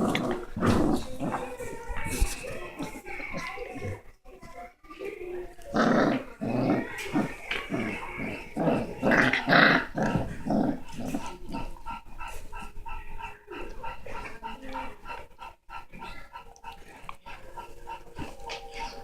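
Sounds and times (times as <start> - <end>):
dogs growling in play: 0.0 - 4.2, 5.5 - 19.0.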